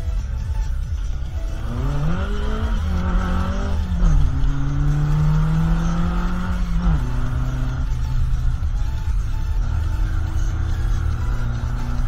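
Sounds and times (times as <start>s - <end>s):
car engine while driving: 0.0s - 12.0s
road and wind noise: 0.0s - 12.0s.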